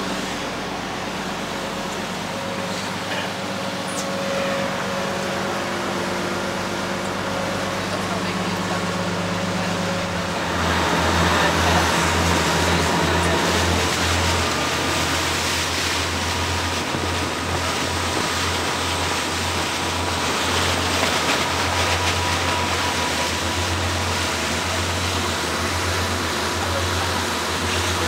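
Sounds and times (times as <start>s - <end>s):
boat engine droning: 0.0s - 28.0s
rushing water: 0.0s - 28.0s.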